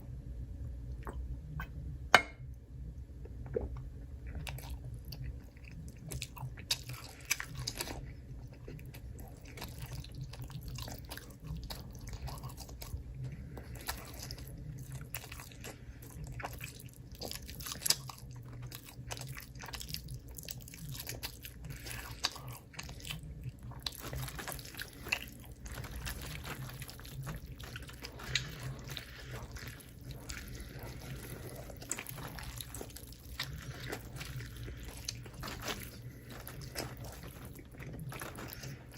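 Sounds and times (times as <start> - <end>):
steady low hum: 0.0 - 38.9
person chewing crunchy food: 3.4 - 38.9.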